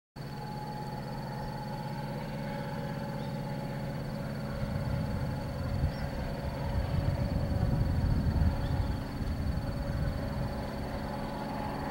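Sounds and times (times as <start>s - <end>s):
diesel locomotive engines droning: 0.2s - 11.9s.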